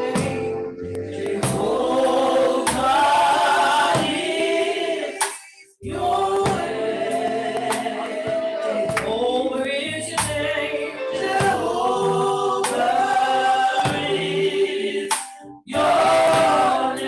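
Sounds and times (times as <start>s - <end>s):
congregation singing: 0.0s - 17.0s.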